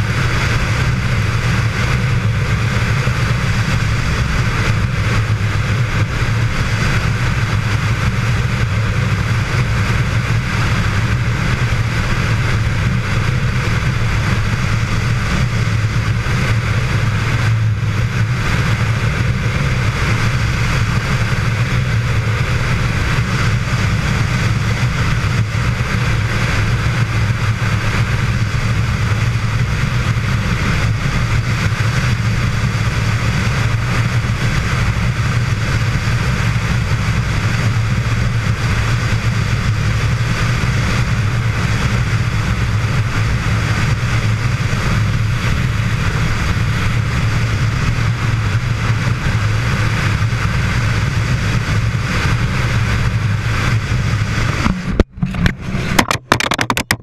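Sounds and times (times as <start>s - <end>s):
motorcycle engine drone: 0.0s - 57.0s
wind rush: 0.0s - 57.0s.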